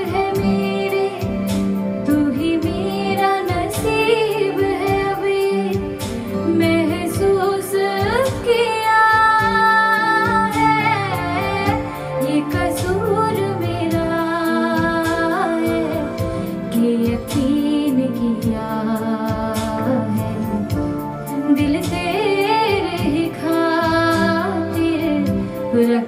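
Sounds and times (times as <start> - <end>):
backing track with steady beat: 0.0 - 26.0.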